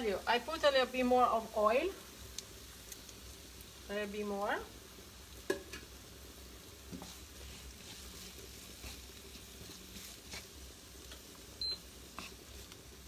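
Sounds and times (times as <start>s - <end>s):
vegetables frying in oil: 0.0s - 13.0s.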